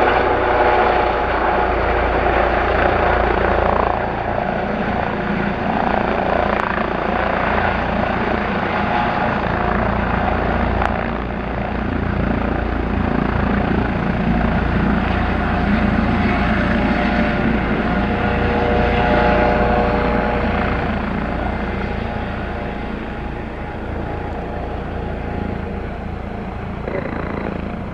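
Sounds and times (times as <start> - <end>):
aircraft engine rumble: 0.0 - 27.9.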